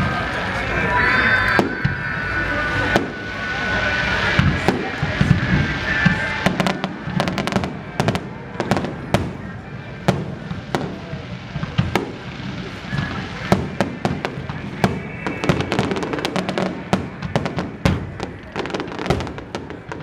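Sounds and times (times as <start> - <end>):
fireworks shells booming: 0.0 - 20.0
fireworks crackling pops: 1.4 - 20.0.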